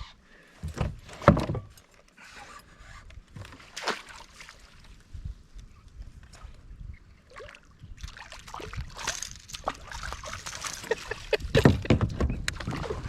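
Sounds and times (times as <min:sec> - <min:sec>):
water splashing and sloshing: 0:00.7 - 0:13.0.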